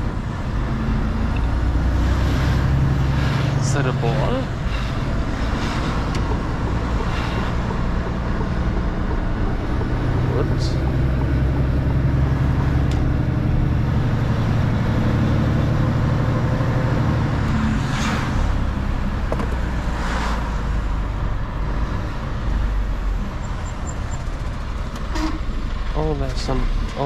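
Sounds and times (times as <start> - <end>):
truck diesel engine droning: 0.0 - 27.0
tyre and road noise: 0.0 - 27.0.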